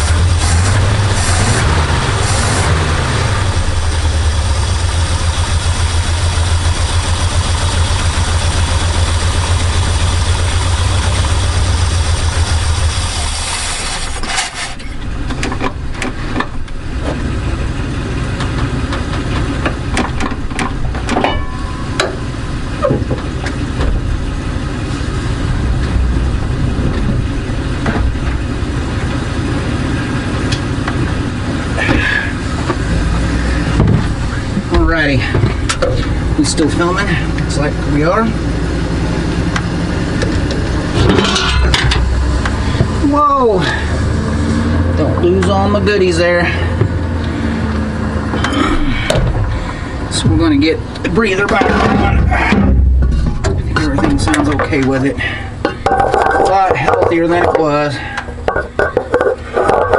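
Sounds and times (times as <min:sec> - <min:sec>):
engine ticks and clatter: 0:00.0 - 0:59.9
truck engine running: 0:00.0 - 0:59.9.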